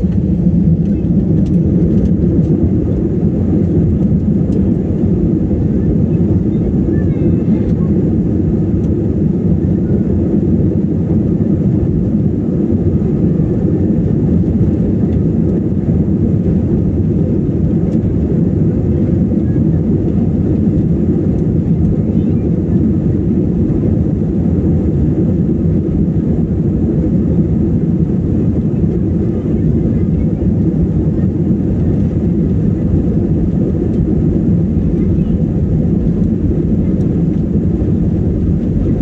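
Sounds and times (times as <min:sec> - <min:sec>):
airplane engines rumbling: 0:00.0 - 0:39.0.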